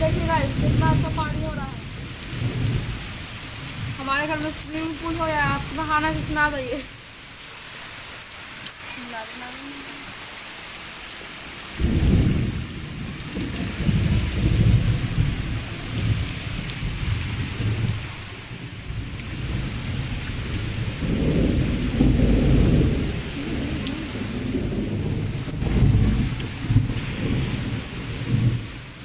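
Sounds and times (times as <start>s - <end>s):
low rolling thunder: 0.0s - 7.0s, 11.8s - 29.0s
rain falling: 0.0s - 29.0s.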